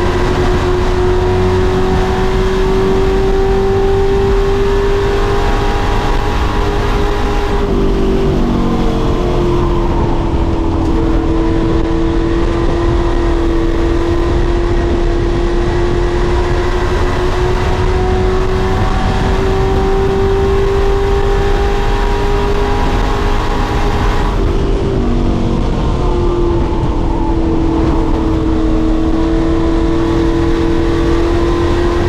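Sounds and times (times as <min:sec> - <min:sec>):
race engine at high revs: 0:00.0 - 0:32.0.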